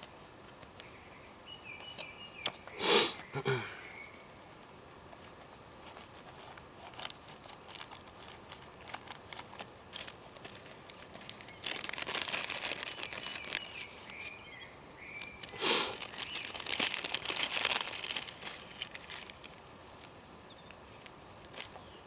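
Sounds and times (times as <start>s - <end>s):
dry crinkling and rustling: 1.7s - 14.4s, 15.1s - 22.0s.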